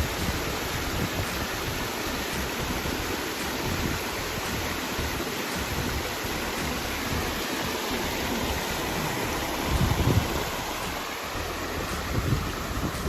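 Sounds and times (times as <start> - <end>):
low rumbling buffets: 0.0 - 13.0
steady rushing noise: 0.0 - 13.0.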